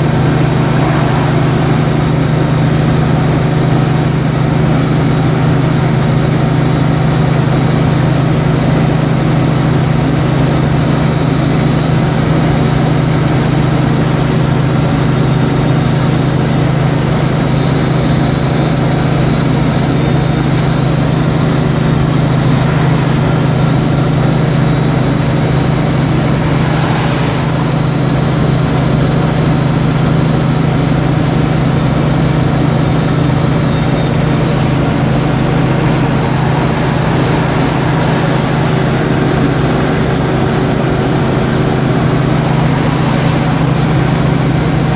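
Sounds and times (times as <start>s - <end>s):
constant low hum: 0.0s - 44.9s
vehicle road and engine noise: 0.0s - 44.9s.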